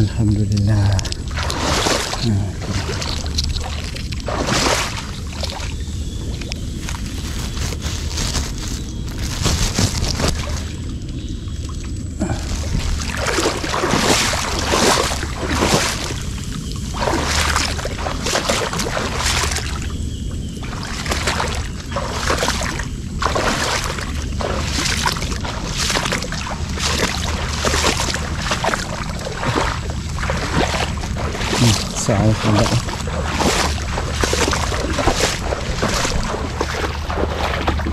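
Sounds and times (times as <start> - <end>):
low steady rumble: 0.0 - 37.9
water splashing around boat: 0.0 - 37.9.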